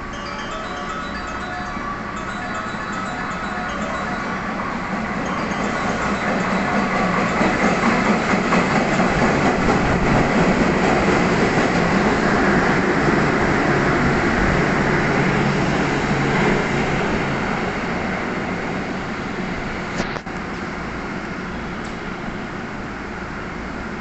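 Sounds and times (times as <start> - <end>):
freight train passing on rails: 0.0 - 24.0.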